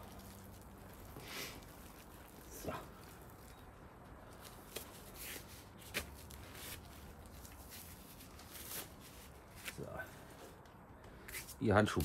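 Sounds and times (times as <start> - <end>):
disposable gloves crinkling: 0.0 - 12.0.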